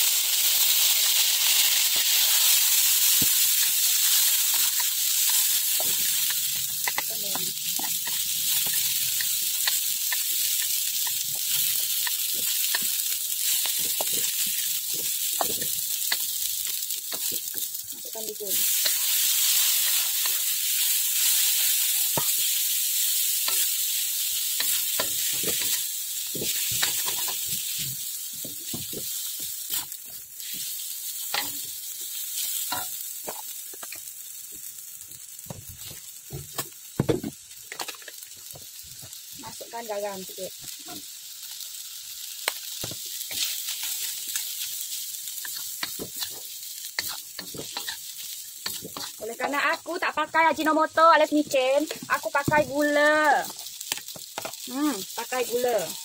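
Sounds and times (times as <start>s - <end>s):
oil sizzling in a wok: 0.0s - 56.0s.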